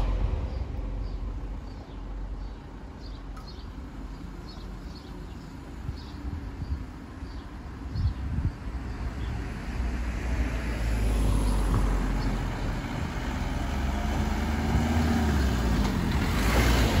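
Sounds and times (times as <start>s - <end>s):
cars driving past: 0.0s - 8.0s, 8.8s - 17.0s.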